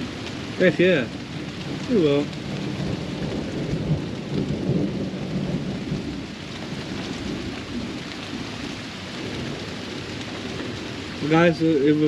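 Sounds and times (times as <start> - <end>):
low rumble of thunder: 0.0 - 12.0
rain falling steadily: 0.0 - 12.0.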